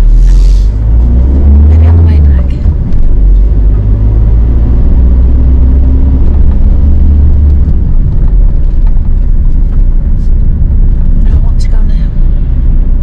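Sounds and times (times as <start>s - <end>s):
van engine and road noise: 0.0s - 13.0s.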